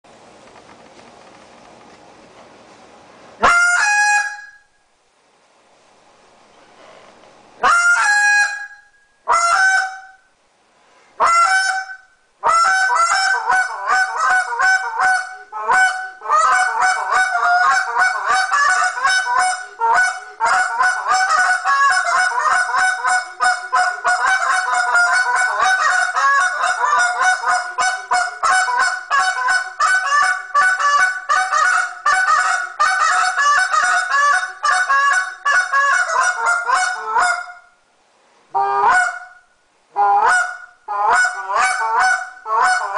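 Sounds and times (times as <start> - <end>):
goose call honks and clucks: 3.4 - 4.6, 7.6 - 10.2, 11.2 - 37.7, 38.6 - 42.9.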